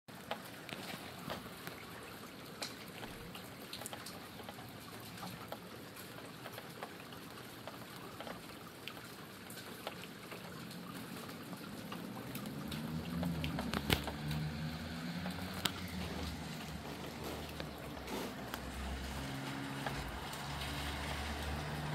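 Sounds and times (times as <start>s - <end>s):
rain drops tapping and dripping: 0.1s - 21.9s.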